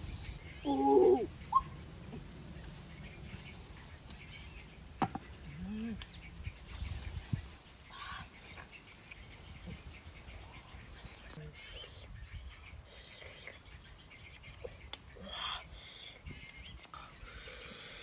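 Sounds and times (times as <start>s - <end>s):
birds calling: 0.0s - 18.0s
low outdoor background noise: 0.0s - 18.0s.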